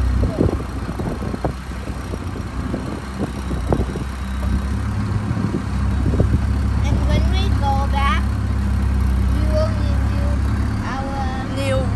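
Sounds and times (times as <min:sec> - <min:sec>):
boat engine droning: 0:00.0 - 0:11.9.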